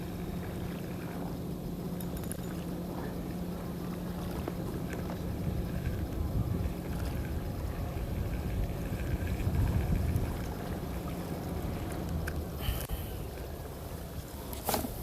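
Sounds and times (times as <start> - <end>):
low rumble with water wash: 0.0 - 15.0.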